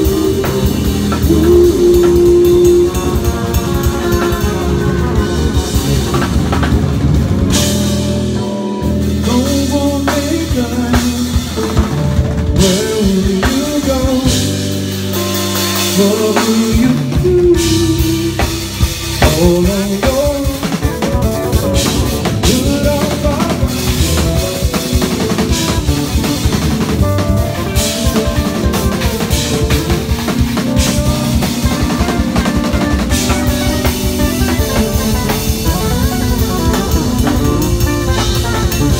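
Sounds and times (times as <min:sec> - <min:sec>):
electric bass fast runs: 0:00.0 - 0:15.1, 0:17.2 - 0:38.9
drum kit playing: 0:00.0 - 0:38.9.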